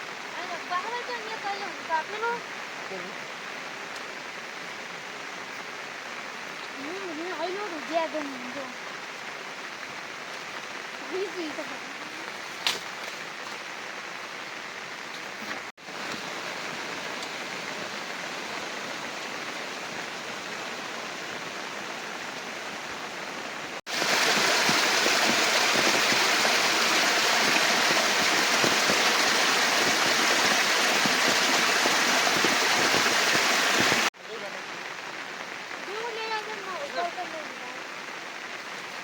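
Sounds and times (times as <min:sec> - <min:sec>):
heavy rain and running water: 0:00.0 - 0:39.0.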